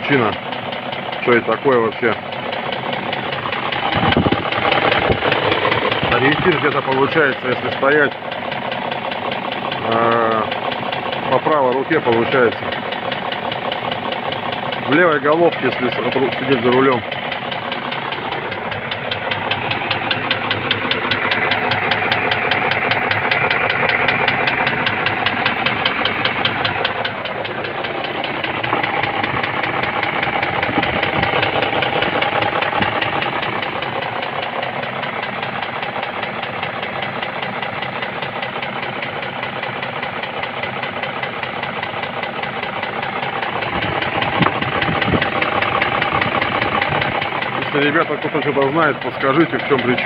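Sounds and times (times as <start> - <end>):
car engine idling: 0.0 - 50.0
rapid even engine knock: 0.0 - 50.0.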